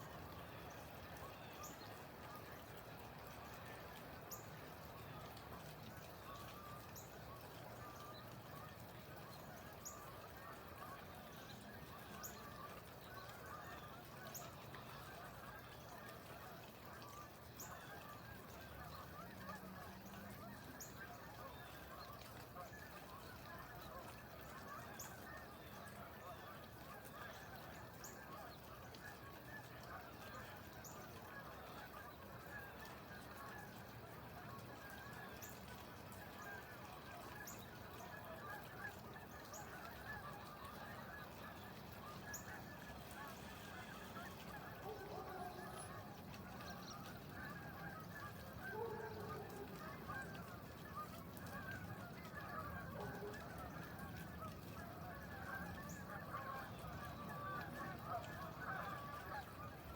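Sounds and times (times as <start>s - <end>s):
flock of birds honking: 0.0s - 59.9s.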